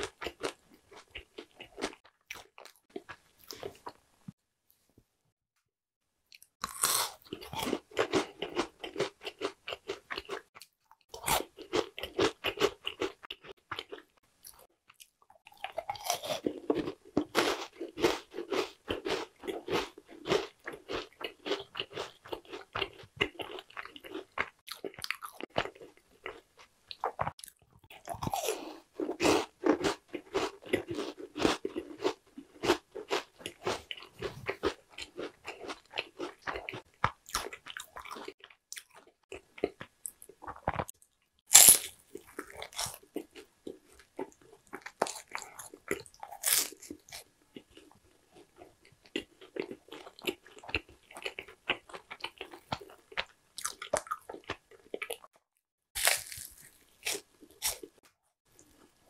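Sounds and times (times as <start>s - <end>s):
crunchy chewing: 6.3s - 40.9s, 41.5s - 55.3s, 56.0s - 58.0s.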